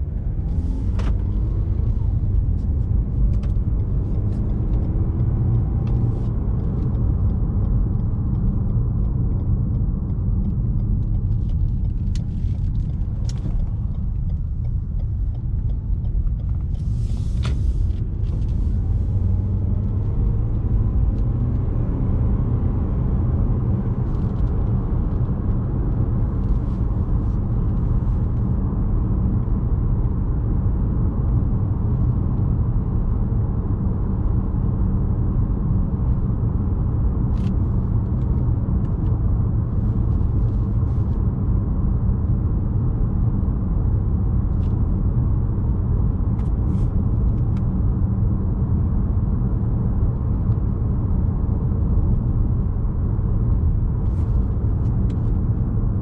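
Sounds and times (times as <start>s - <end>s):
car engine running while driving: 0.0s - 56.0s
road rumble: 0.0s - 56.0s.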